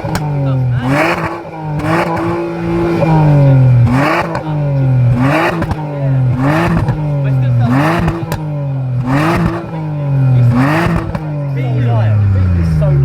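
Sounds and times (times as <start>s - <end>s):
car engine revving: 0.0s - 13.0s
steady low drone: 0.0s - 13.0s.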